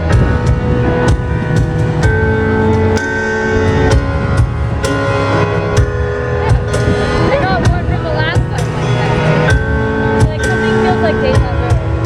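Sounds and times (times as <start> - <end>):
keyboard and guitar chords: 0.0 - 12.0
steady drum beat: 0.0 - 12.0.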